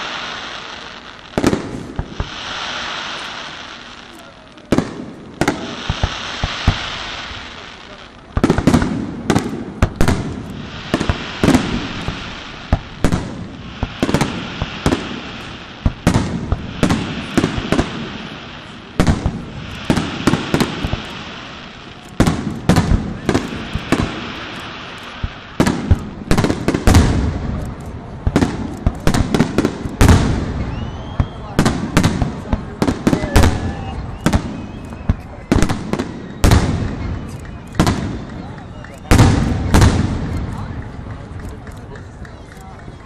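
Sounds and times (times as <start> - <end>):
steady hiss: 0.0 - 41.8
fireworks bursting: 0.0 - 43.0.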